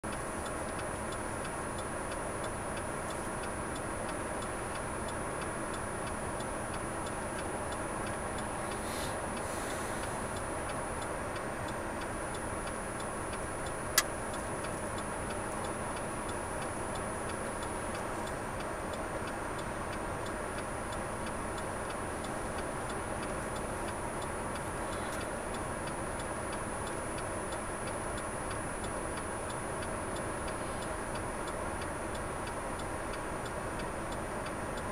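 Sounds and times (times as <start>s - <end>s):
car idling cabin hum: 0.0s - 34.9s
turn signal ticking: 0.0s - 34.9s.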